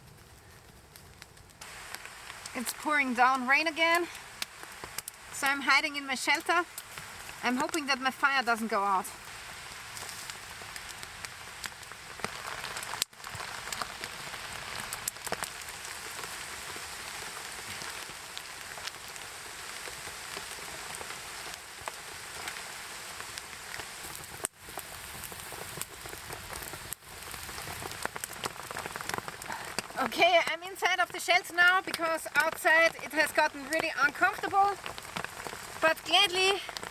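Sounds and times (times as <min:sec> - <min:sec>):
heavy rain pouring: 0:01.6 - 0:36.9.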